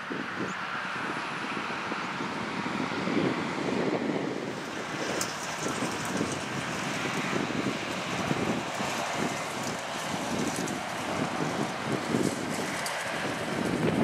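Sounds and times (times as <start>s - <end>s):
wind buffeting microphone: 0.0s - 14.0s
farm machinery engines running: 0.1s - 14.0s.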